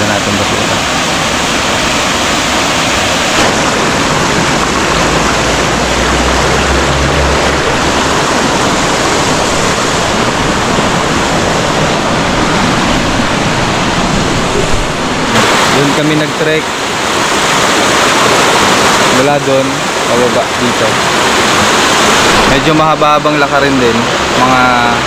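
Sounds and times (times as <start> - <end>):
river water rushing over boulders: 0.0 - 25.0.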